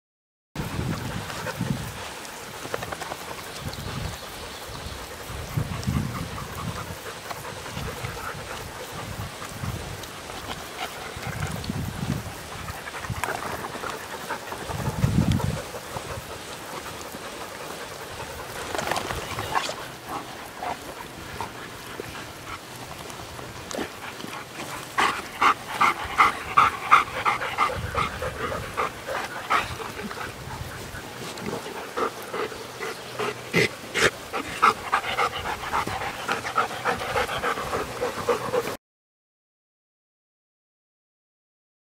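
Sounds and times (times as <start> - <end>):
dog panting: 5.0 - 38.8.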